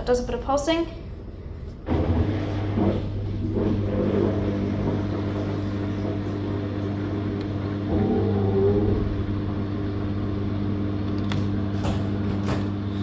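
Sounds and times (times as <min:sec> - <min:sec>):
washing machine motor humming: 0:01.2 - 0:13.0.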